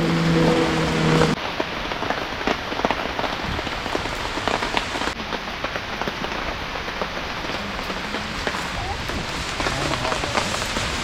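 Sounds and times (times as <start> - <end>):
heavy rain falling: 0.0 - 11.0
raindrops ticking on a surface: 0.8 - 11.0.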